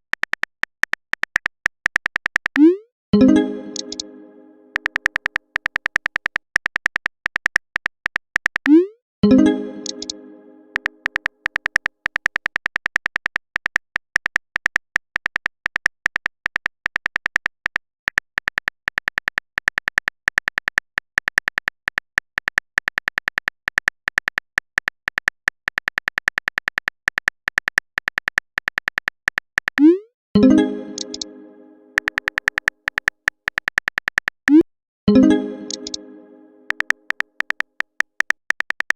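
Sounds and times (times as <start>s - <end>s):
quick light keyboard clicks: 0.0s - 2.7s, 3.8s - 4.0s, 4.8s - 8.8s, 9.8s - 10.2s, 10.8s - 29.9s, 31.0s - 31.3s, 32.0s - 34.6s, 35.7s - 36.0s, 36.7s - 38.9s.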